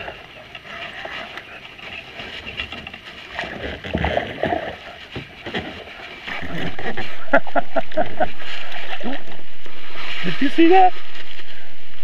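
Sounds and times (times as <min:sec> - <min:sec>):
water splashing against kayak hull: 0:00.0 - 0:12.0.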